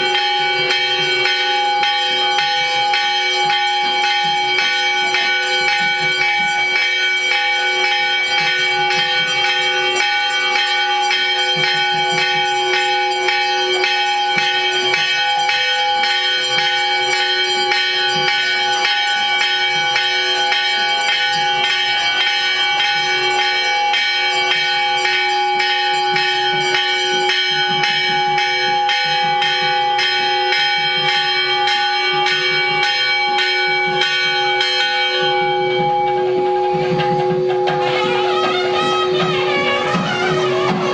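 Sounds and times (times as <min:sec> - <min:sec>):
temple bells ringing: 0:00.0 - 0:40.9.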